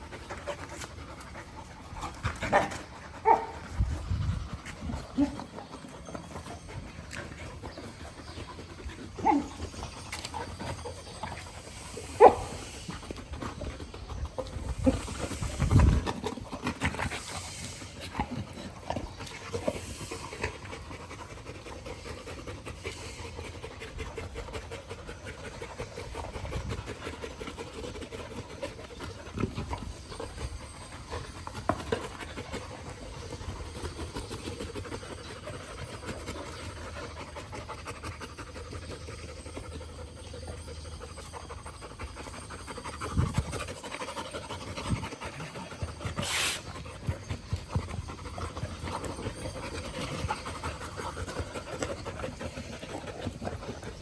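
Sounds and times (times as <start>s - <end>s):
dog panting: 0.0s - 54.0s.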